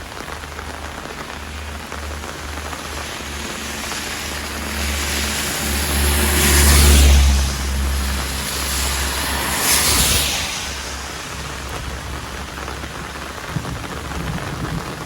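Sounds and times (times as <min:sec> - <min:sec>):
heavy rain: 0:00.0 - 0:15.0
vehicle engine rumble: 0:00.0 - 0:15.0
tyres hissing through water: 0:00.5 - 0:13.4.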